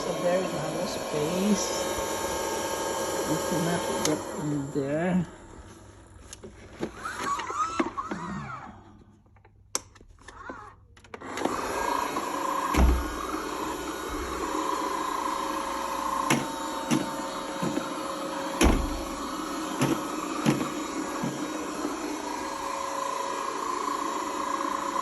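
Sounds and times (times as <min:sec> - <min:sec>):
robot vacuum motor humming: 0:00.0 - 0:06.2, 0:06.8 - 0:09.0, 0:10.3 - 0:25.0.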